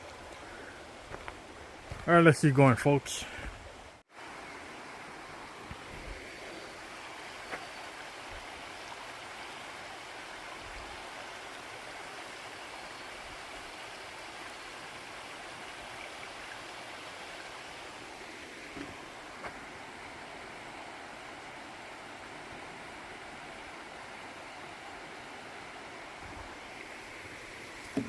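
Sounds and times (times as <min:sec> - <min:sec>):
creek flowing: 0:00.0 - 0:28.0.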